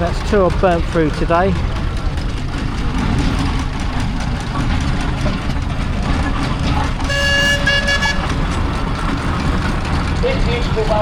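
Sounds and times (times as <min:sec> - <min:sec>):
steam engine rumbling: 0:00.0 - 0:11.0.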